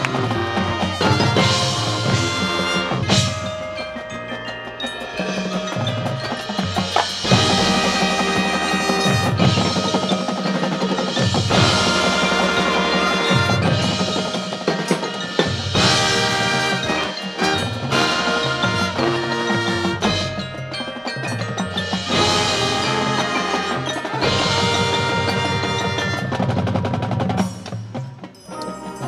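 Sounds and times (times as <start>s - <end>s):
marching band playing: 0.0s - 29.0s.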